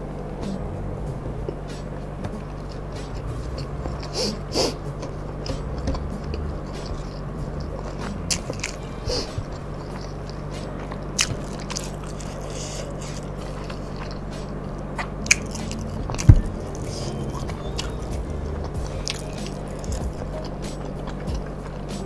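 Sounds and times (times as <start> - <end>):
steady low hum: 0.0 - 22.0
person chewing: 0.6 - 22.0.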